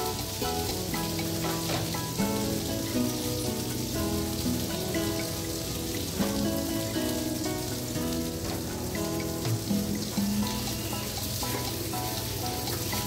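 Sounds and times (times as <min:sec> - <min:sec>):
background music: 0:00.0 - 0:13.0
water spraying from hose onto metal: 0:00.0 - 0:13.0.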